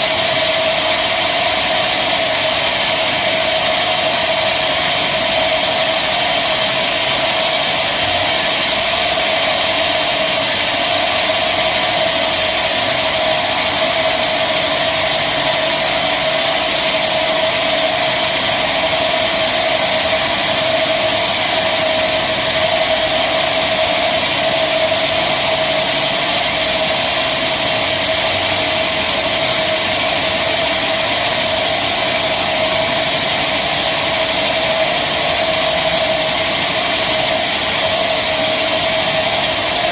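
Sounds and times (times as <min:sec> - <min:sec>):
mechanical hum: 0:00.0 - 0:39.9
sawmill machinery whine: 0:00.0 - 0:39.9.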